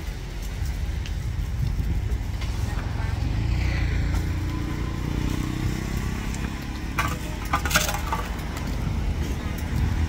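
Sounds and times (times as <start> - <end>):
motor vehicle engine rumble: 0.0 - 10.0.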